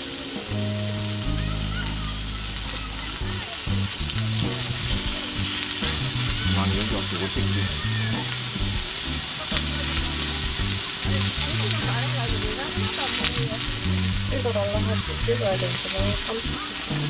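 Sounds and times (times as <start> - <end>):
background music: 0.0 - 17.0
meat sizzling in a pan: 0.0 - 17.0.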